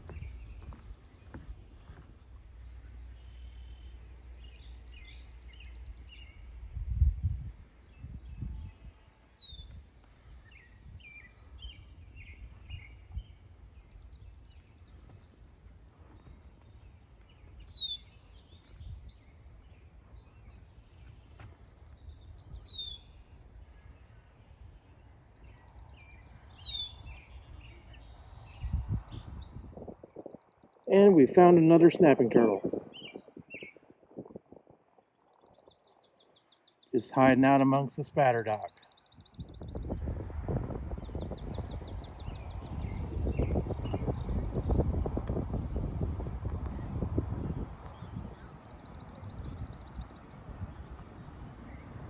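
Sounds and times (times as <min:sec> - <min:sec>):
marsh birds calling and singing: 0:00.0 - 0:40.1, 0:40.8 - 0:52.0.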